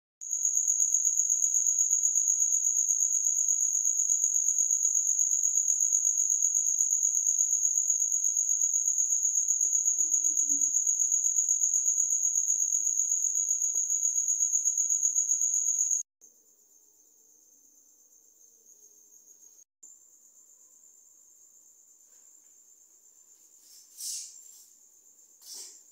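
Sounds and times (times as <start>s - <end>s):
cricket chirping: 0.2s - 25.9s.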